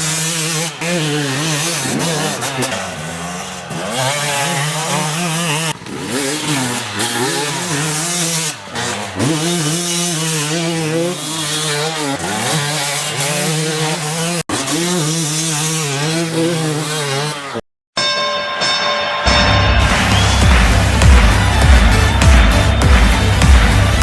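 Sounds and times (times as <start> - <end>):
two-stroke dirt bike engine revving: 0.0 - 17.6, 19.3 - 24.0.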